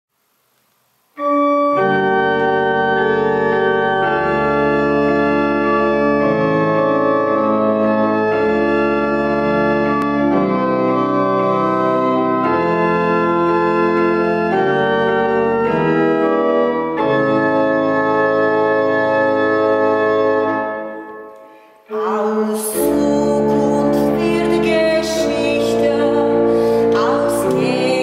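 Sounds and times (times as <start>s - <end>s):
pipe organ playing chords: 1.1s - 28.0s.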